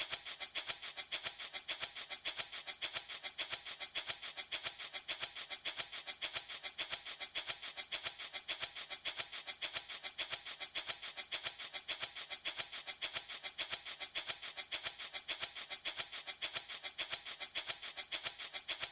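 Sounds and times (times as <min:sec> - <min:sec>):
baby rattle shaken: 0:00.0 - 0:18.9.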